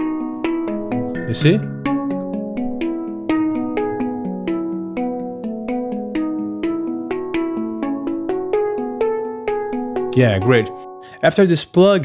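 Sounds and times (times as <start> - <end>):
handpan melody: 0.0 - 11.1.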